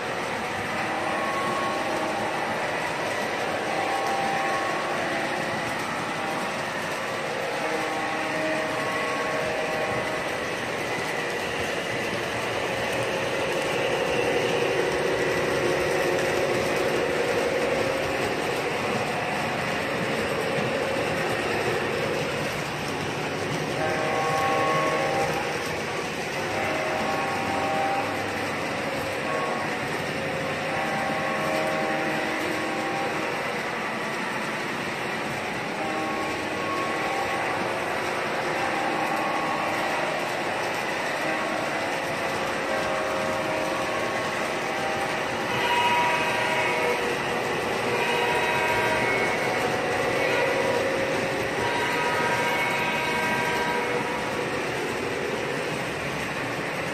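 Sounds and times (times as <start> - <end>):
model train rumble and wheel clatter: 0.0 - 56.9.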